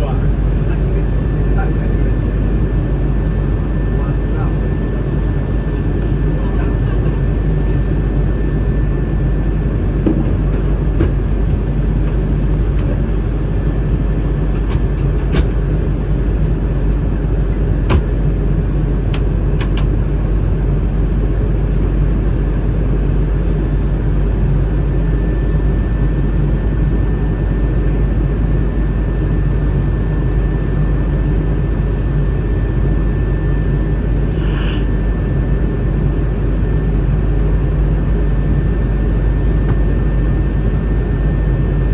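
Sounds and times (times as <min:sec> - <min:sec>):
jet engine cabin rumble: 0:00.0 - 0:41.9
thin steady whine: 0:00.0 - 0:41.9.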